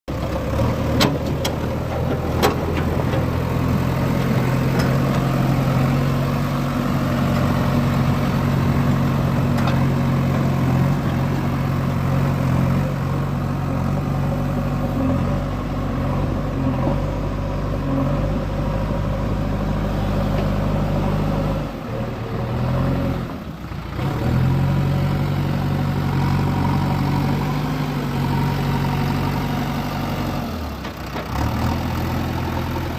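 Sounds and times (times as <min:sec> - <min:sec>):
diesel engine idling: 0:00.1 - 0:32.9.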